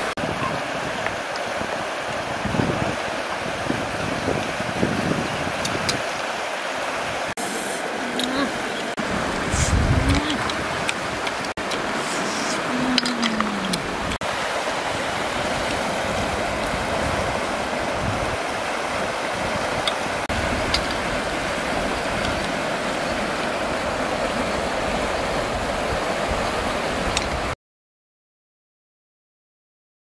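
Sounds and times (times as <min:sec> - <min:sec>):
river rushing: 0:00.0 - 0:27.6.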